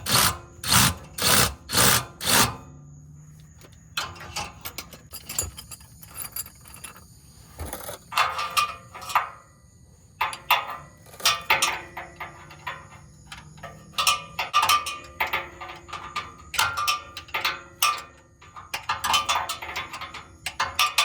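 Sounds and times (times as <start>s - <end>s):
hand tools clicking and clinking: 0.0s - 2.6s, 3.4s - 9.4s, 10.2s - 21.0s
faint metallic ringing: 2.6s - 21.0s.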